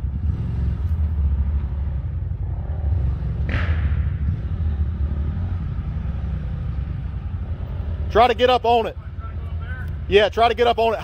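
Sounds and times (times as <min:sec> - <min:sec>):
engine low rumble: 0:00.0 - 0:11.0.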